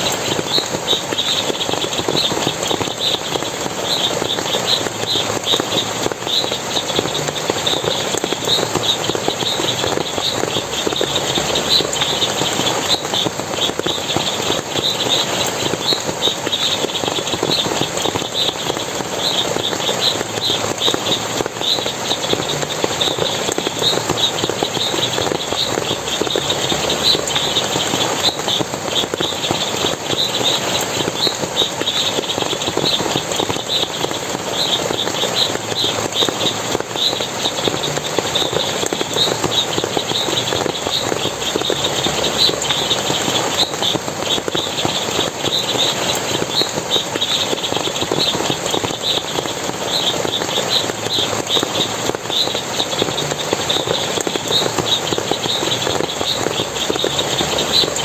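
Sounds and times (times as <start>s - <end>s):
rapid high-pitched chirping: 0.0s - 58.0s
water running and splashing: 0.0s - 58.0s.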